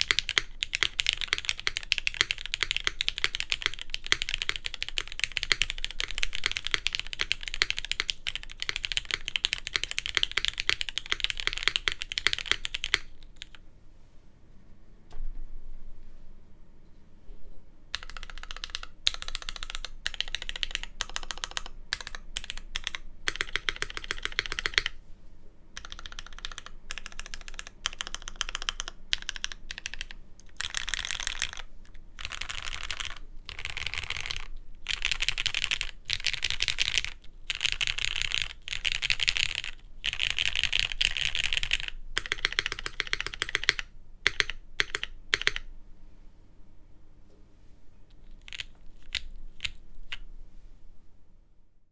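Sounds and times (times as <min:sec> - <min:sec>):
typing on mechanical keyboard: 0:00.0 - 0:13.6, 0:17.9 - 0:25.0, 0:25.8 - 0:45.7, 0:48.2 - 0:50.2.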